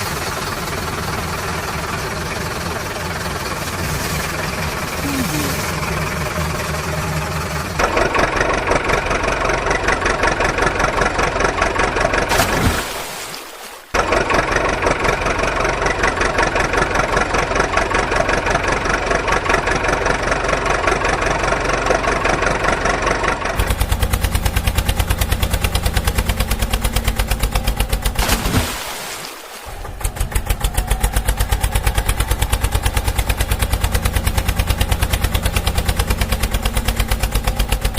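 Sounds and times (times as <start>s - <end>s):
diesel engine idling: 0.0s - 12.3s, 14.0s - 28.2s, 29.7s - 37.9s.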